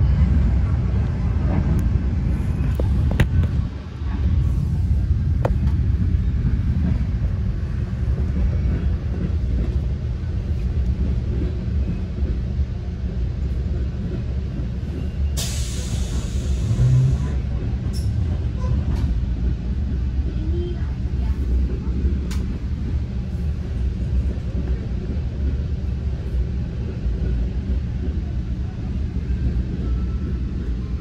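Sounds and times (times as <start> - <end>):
train rumbling inside car: 0.0 - 31.0.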